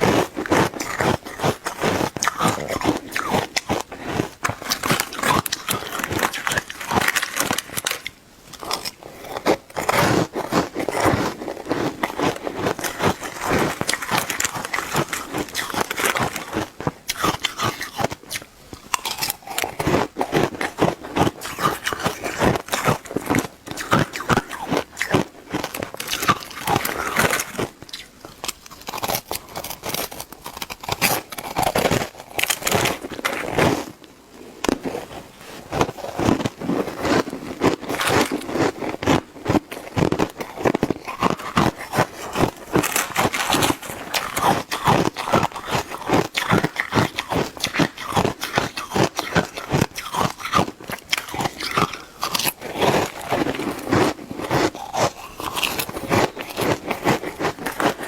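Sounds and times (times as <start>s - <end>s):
ice being chewed and crunched: 0.0s - 58.0s.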